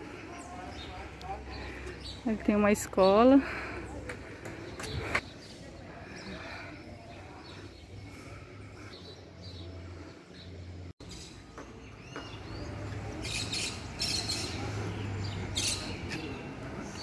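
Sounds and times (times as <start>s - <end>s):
small birds chirping: 0.0s - 17.0s
street background noise: 0.0s - 17.0s.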